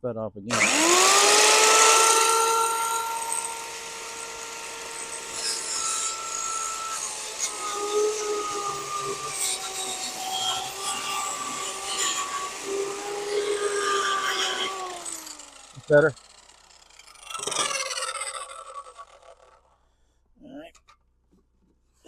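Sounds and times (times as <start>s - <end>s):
saw cutting wooden board: 0.5s - 19.7s
electric saw whining: 0.5s - 19.8s.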